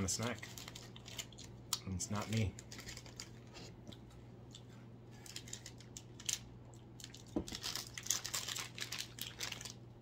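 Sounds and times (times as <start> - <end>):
plastic wrapper crinkling: 0.0 - 3.6, 5.2 - 9.9
steady low hum: 0.0 - 10.0.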